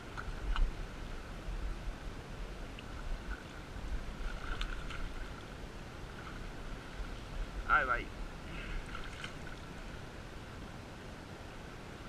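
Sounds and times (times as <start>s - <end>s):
river running over stones: 0.0s - 12.0s
wind rumble on microphone: 0.0s - 12.0s.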